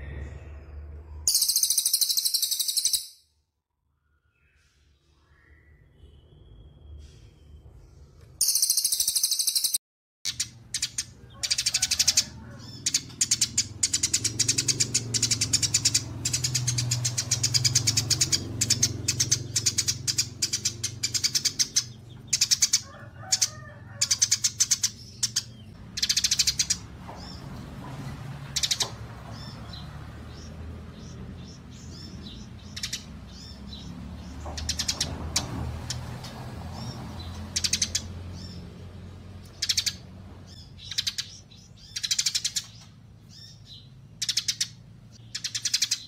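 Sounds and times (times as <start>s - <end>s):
songbirds chirping rapidly: 0.0s - 3.2s, 3.8s - 46.0s.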